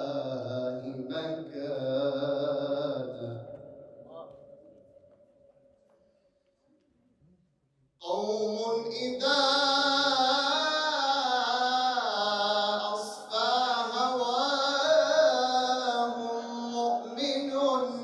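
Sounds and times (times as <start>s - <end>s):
man chanting: 0.0s - 4.8s, 8.0s - 18.0s.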